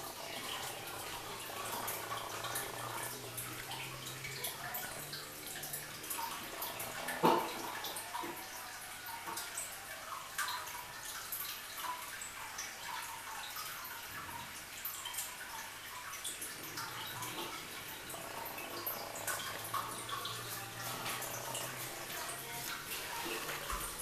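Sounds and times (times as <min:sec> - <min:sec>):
water dripping: 0:00.0 - 0:24.0.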